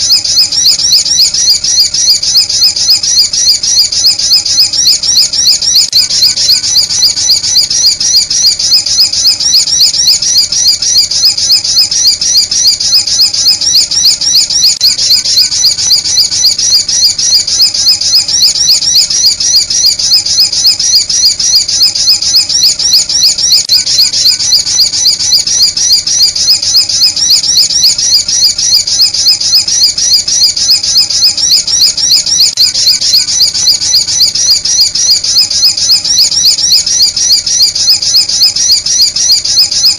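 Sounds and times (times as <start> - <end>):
high-pitched bird chirping calls: 0.0 - 39.9.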